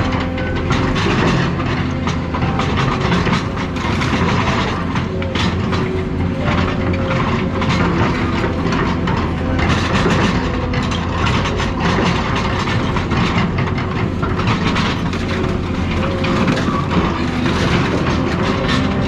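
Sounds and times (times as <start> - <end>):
heavy machine engine under load: 0.0 - 19.0
metal clanking and knocking: 0.0 - 19.0.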